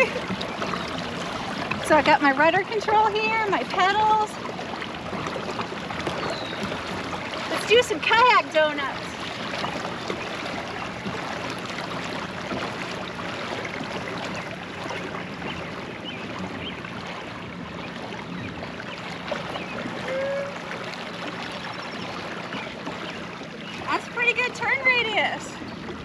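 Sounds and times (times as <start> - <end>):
water splashing and churning: 0.0 - 26.0.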